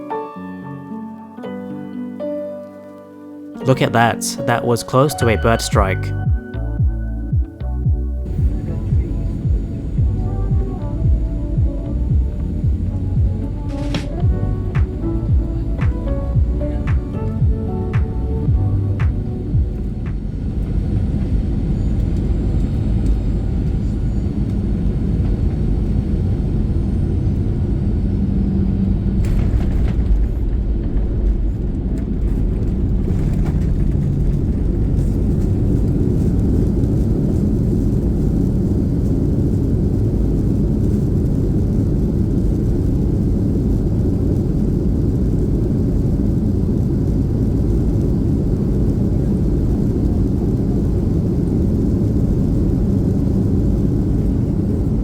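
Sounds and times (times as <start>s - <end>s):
airplane cabin engine rumble: 6.6s - 55.0s.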